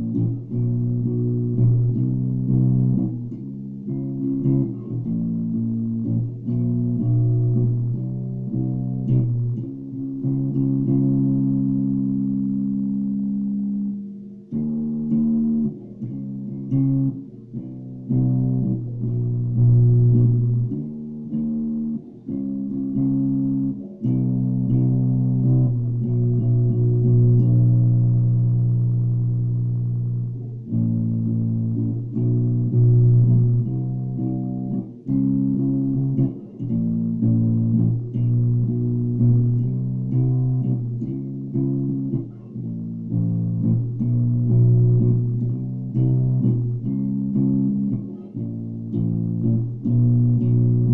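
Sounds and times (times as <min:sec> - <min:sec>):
electric bass plucked notes: 0:00.0 - 0:50.9.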